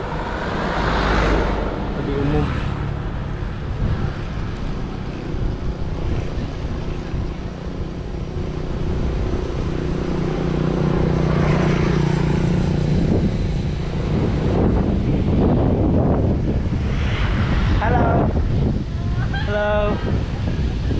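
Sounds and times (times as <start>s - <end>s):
vehicle engine drone: 0.0s - 20.9s
wind rush on microphone: 0.0s - 20.9s.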